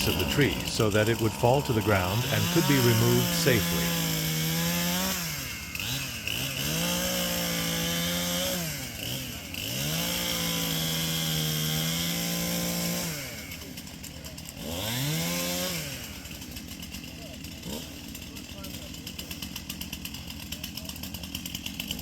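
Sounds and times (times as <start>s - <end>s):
chainsaw cutting into tree trunk: 0.0s - 22.0s.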